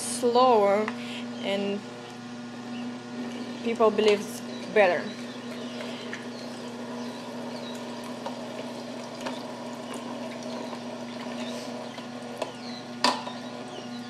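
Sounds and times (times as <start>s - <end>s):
juicer humming: 0.0s - 14.0s.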